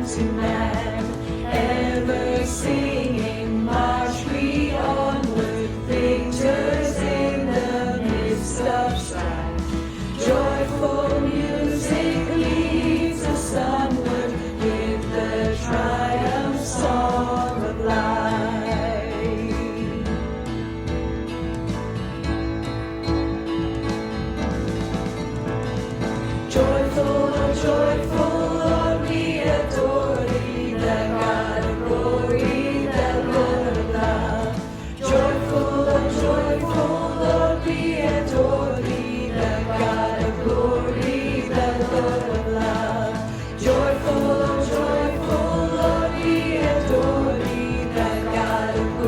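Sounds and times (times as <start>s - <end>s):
choir singing a hymn: 0.0s - 20.8s, 26.2s - 49.0s
instrumental accompaniment: 0.0s - 49.0s.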